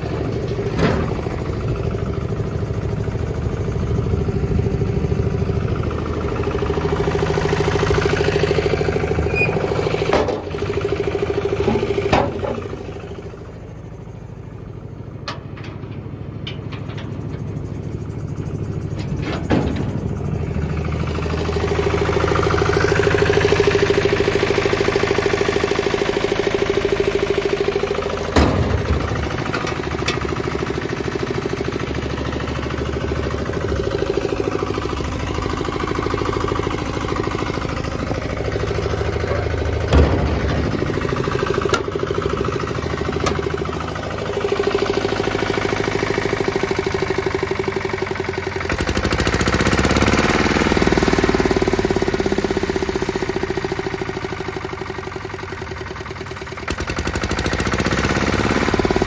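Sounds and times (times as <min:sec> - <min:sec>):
short engine knocks: 0:00.0 - 0:05.4, 0:06.7 - 0:13.5, 0:15.2 - 0:53.7
diesel engine running with knocking beat: 0:00.0 - 0:59.0.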